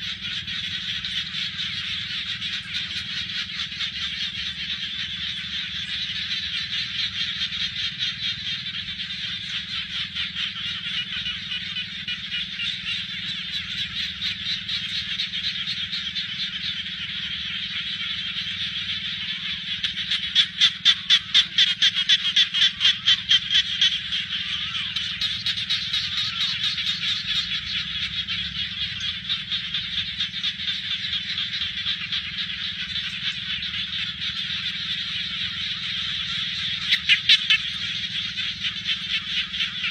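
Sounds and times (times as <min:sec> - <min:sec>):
chorus of frogs trilling: 0:00.0 - 0:39.9
nearer frog calling: 0:00.0 - 0:39.9.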